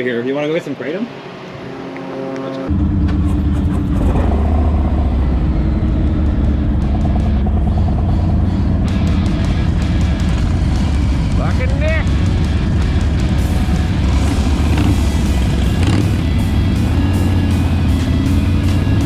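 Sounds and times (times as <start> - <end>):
motorcycle engine rumbling: 2.6 - 19.0.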